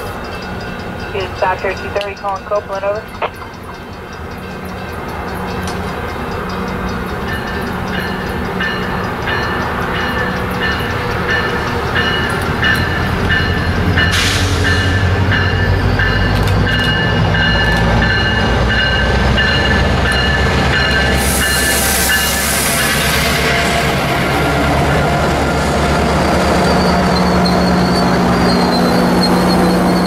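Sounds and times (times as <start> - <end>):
train bell ringing: 0.0 - 24.0, 26.2 - 30.0
diesel locomotive engine rumble: 0.0 - 30.0.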